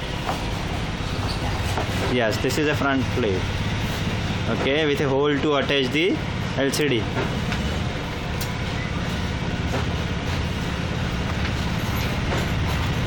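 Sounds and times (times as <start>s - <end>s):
low constant hum: 0.0s - 13.0s.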